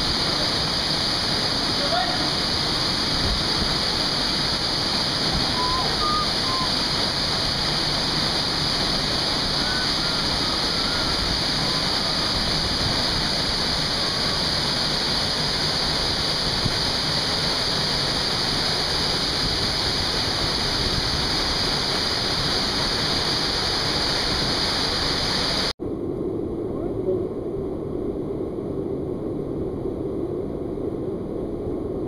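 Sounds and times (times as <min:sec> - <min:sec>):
waterfall pouring into a pool: 0:00.0 - 0:25.7.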